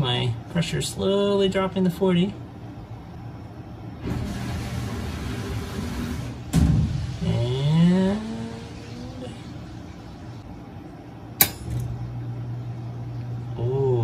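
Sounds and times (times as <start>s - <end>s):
whine in plumbing: 0.0s - 14.0s.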